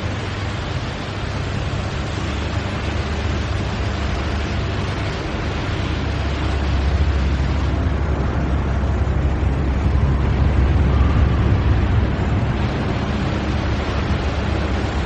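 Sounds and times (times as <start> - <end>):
factory machinery rumbling: 0.0 - 15.0.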